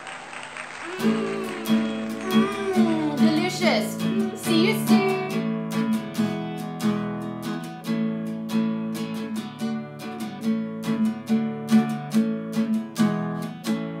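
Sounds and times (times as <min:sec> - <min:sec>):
acoustic guitar strumming: 0:00.9 - 0:14.0.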